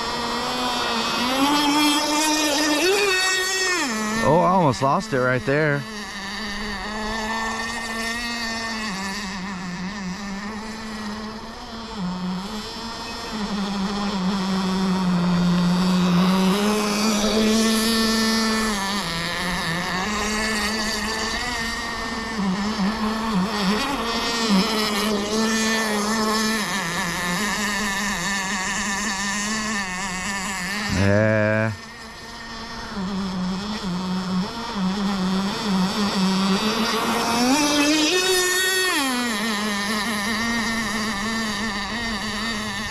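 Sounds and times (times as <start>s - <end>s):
model boat engine droning: 0.0s - 42.9s.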